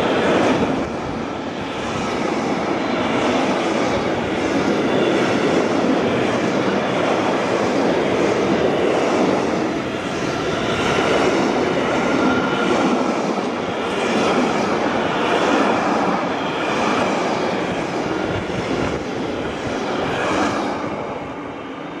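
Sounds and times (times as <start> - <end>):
freight train wheels rumbling and rattling: 0.0 - 22.0.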